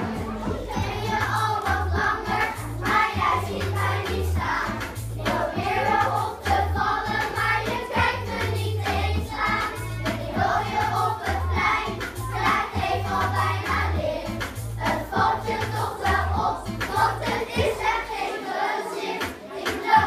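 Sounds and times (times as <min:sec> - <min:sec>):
instrumental accompaniment with bass: 0:00.0 - 0:18.0
children singing: 0:00.0 - 0:20.0.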